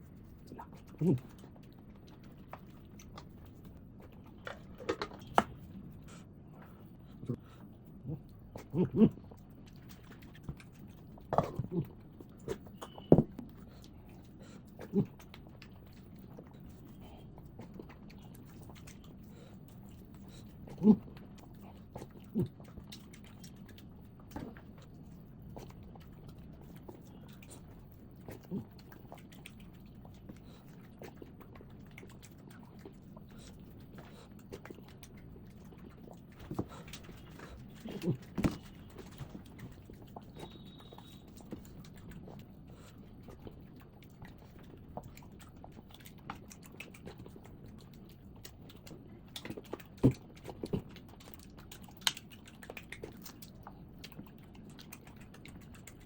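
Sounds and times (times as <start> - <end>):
person chewing: 0.0 - 56.0
wet mouth clicks: 0.0 - 56.0.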